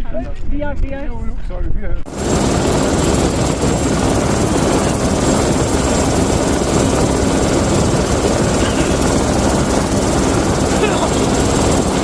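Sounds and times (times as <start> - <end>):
helicopter rotor beating: 2.1 - 12.0.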